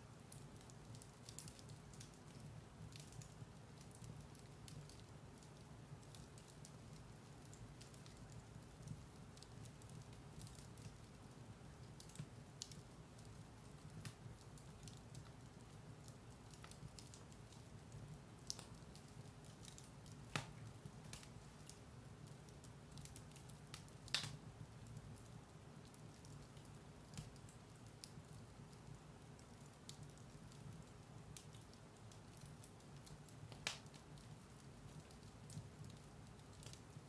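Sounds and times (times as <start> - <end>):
firewood crackling and popping: 0.0 - 37.0
fire rumbling in fireplace: 0.1 - 37.0.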